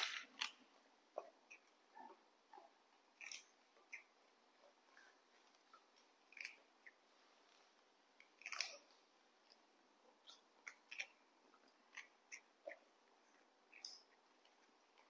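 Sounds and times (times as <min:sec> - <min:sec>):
monkeys crunching snacks: 0:00.0 - 0:04.2, 0:04.8 - 0:15.0.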